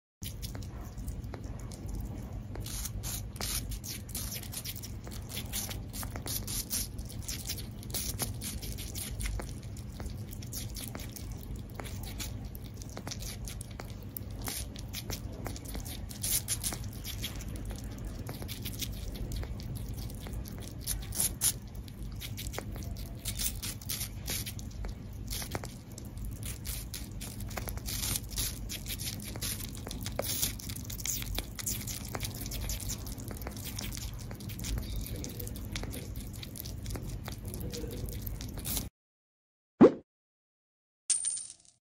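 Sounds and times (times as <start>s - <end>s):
animals crunching apple: 0.2s - 38.9s
low steady hum: 0.2s - 38.9s.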